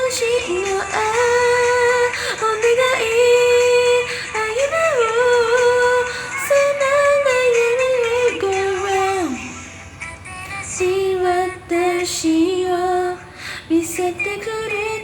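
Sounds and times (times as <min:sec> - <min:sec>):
person singing a pop song: 0:00.0 - 0:15.0.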